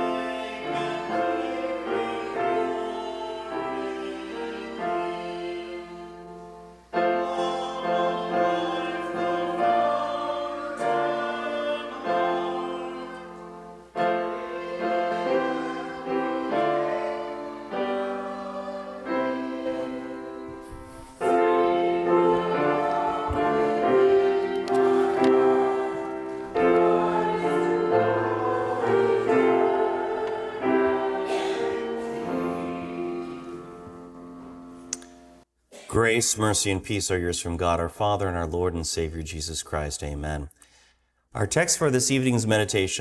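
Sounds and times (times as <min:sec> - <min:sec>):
choir singing a hymn: 0:00.0 - 0:34.9
keyboard accompaniment: 0:00.0 - 0:35.4.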